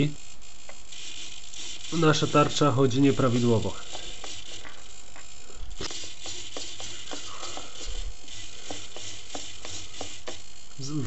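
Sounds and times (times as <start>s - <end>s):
servos whirring and ticking: 0.0s - 11.0s
steady hiss: 0.0s - 11.0s.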